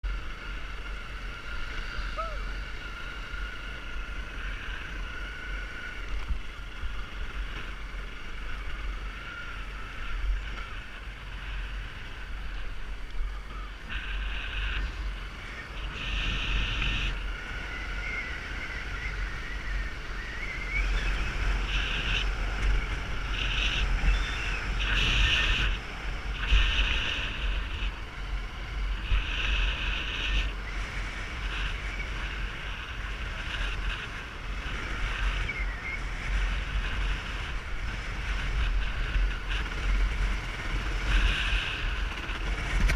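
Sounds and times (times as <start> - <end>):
road noise: 0.0 - 42.9
wind buffeting microphone: 1.4 - 42.9.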